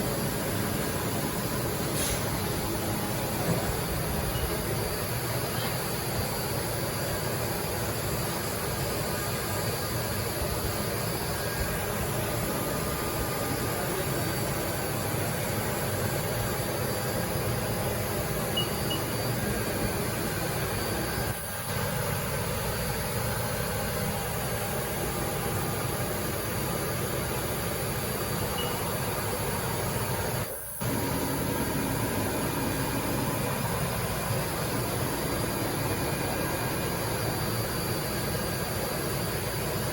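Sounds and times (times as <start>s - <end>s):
faint steady tones: 0.0s - 21.8s, 25.0s - 39.7s
machining center whirring: 0.0s - 39.9s.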